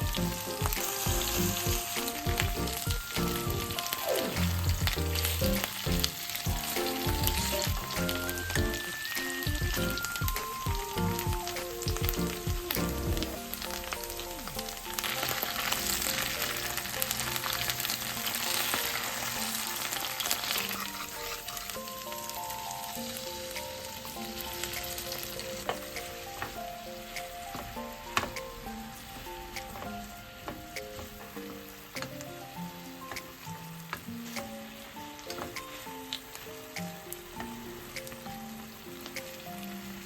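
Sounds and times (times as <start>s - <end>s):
food sizzling in a pan: 0.0s - 40.0s
light background music: 0.0s - 40.0s.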